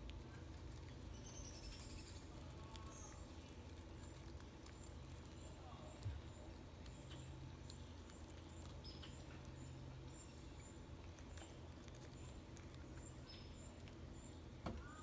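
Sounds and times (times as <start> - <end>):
chipmunk eating clicks: 0.0 - 15.0.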